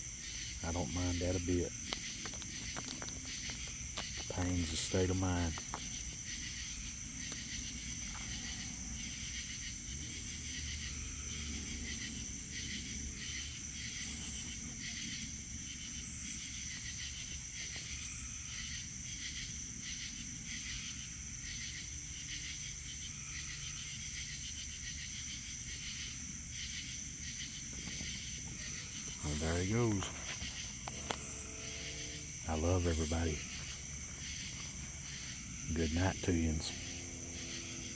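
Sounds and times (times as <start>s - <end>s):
crickets trilling: 0.0s - 37.9s.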